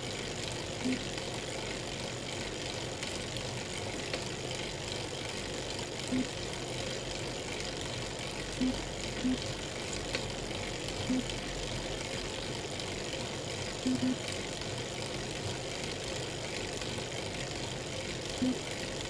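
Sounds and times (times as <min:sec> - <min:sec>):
bike trainer whirring: 0:00.0 - 0:19.0.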